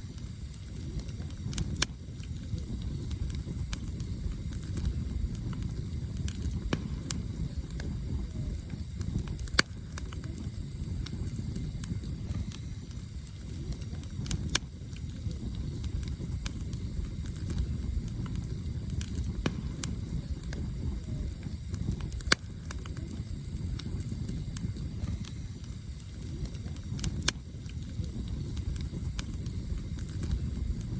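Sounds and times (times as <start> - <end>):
campfire crackling and popping: 0.0 - 30.9
low fire rumble: 0.0 - 30.9.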